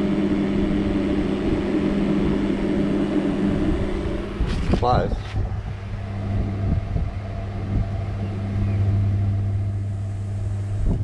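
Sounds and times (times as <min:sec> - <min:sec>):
electrical hum: 0:00.0 - 0:11.0
fan whir: 0:00.0 - 0:11.0.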